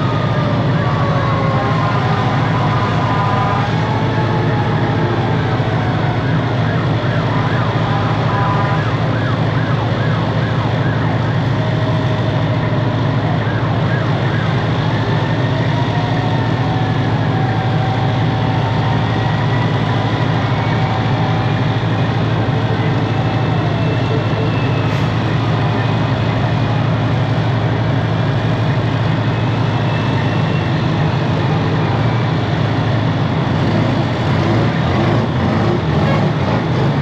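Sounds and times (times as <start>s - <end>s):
distant sirens: 0.0s - 37.0s.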